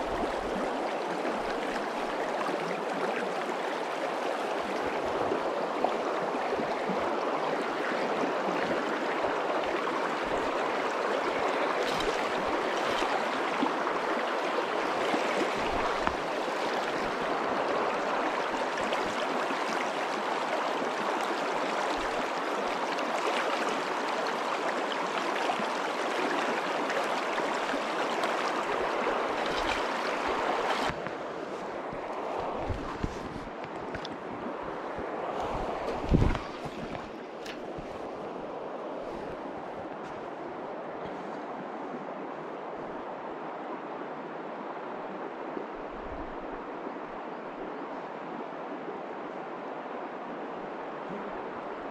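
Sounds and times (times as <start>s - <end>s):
river running over stones: 0.0s - 51.9s.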